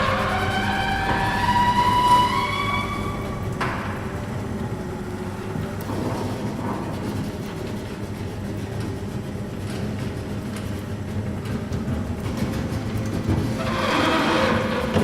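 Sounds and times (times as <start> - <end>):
door rumbling along tracks: 0.0 - 15.0
garage door motor humming: 0.0 - 15.0.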